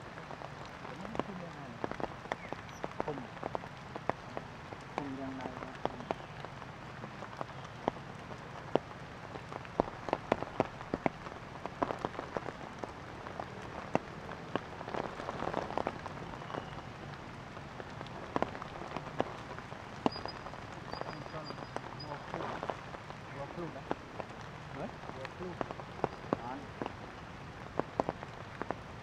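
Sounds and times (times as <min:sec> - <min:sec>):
raindrops ticking on leaves: 0:00.0 - 0:29.0
steady rain hiss: 0:00.0 - 0:29.0.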